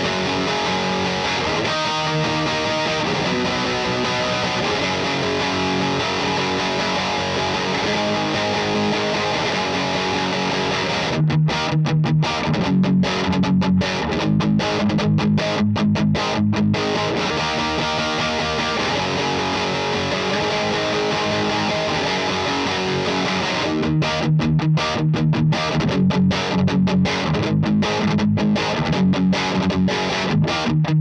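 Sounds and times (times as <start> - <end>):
overdriven electric guitar chords: 0.0 - 31.0.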